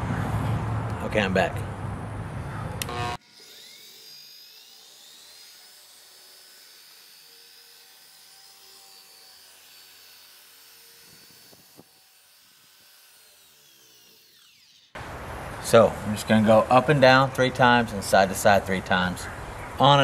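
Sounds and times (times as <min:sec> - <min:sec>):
polisher whining: 0:02.7 - 0:20.0.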